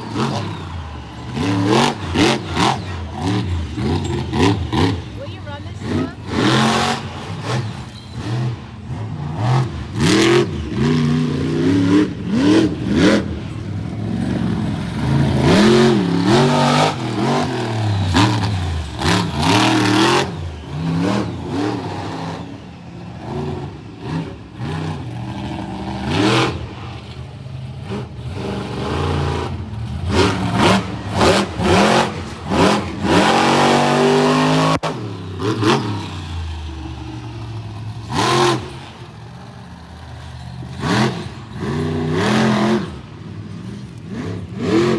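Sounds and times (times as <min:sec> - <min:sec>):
truck engines revving: 0:00.0 - 0:44.9.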